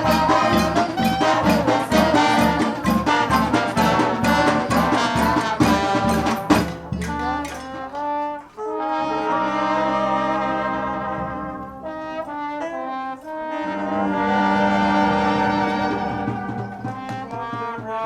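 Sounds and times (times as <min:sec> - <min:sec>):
brass music: 0:00.0 - 0:18.0.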